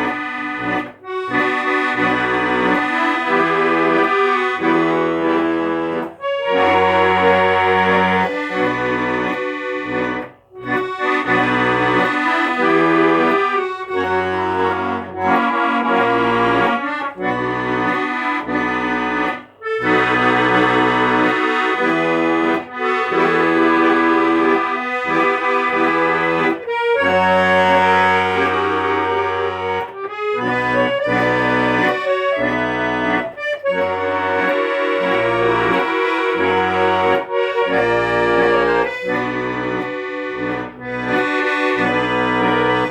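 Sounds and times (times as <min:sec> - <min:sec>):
accordion playing: 0:00.0 - 0:42.9.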